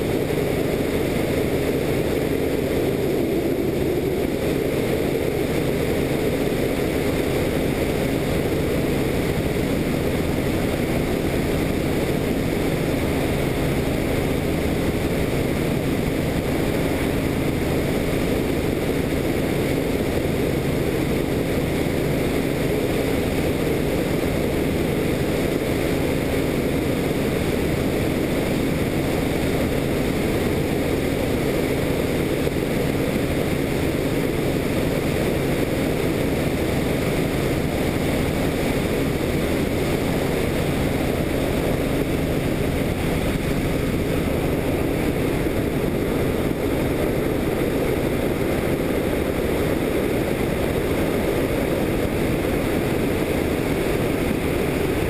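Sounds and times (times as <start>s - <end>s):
helicopter rotor drone: 0.0s - 55.0s.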